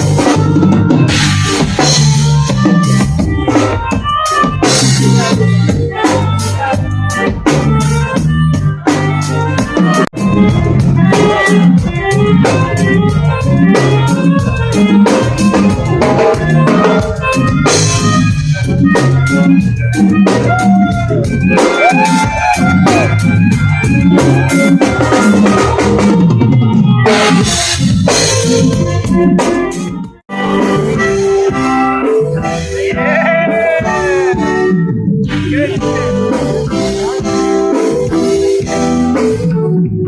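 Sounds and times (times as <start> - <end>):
band music with drums and organ: 0.0 - 40.0
stepping bass line: 0.0 - 40.0.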